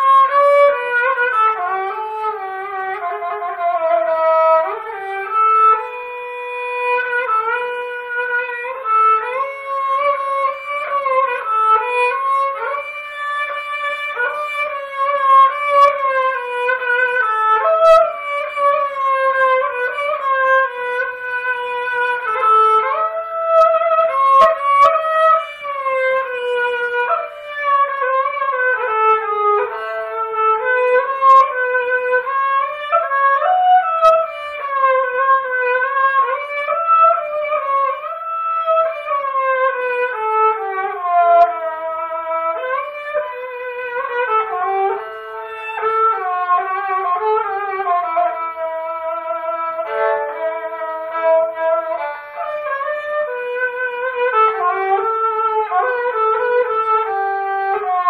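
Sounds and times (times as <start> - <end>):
bowed fiddle melody: 0.0 - 58.0.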